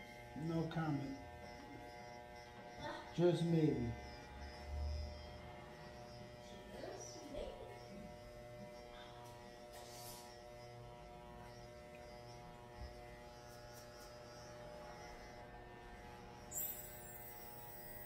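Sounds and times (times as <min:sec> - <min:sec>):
electric hair clippers humming: 0:00.0 - 0:18.0.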